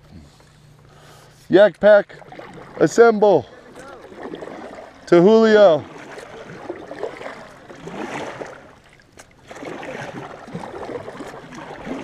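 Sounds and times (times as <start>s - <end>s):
water splashing around kayaks: 0.0s - 12.0s.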